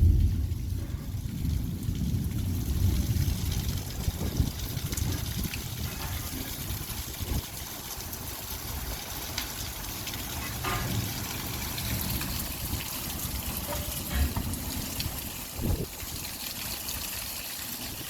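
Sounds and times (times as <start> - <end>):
light rain hissing: 0.0 - 18.0
water dripping: 0.0 - 18.0
water trickling: 0.0 - 18.0.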